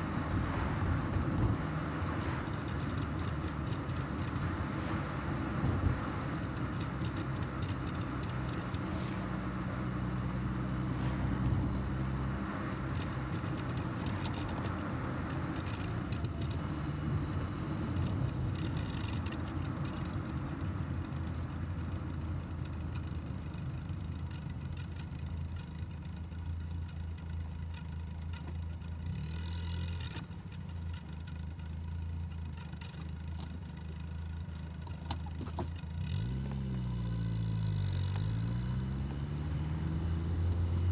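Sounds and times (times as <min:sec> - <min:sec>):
road and tyre noise: 0:00.0 - 0:40.9.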